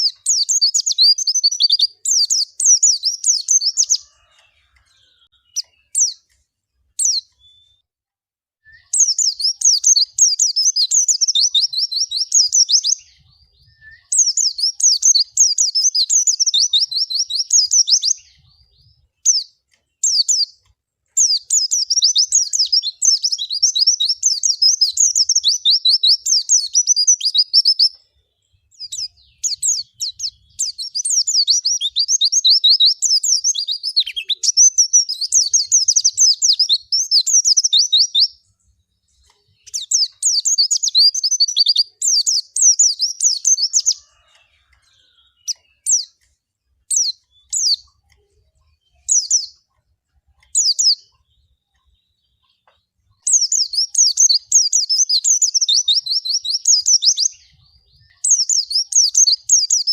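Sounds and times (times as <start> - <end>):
bird twittering chirps: 0.0 - 7.8, 8.7 - 59.9.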